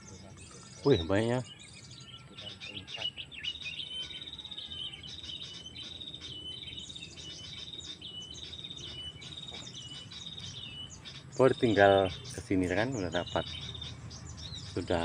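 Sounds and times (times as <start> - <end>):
songbirds trilling and chirping: 0.0 - 15.0.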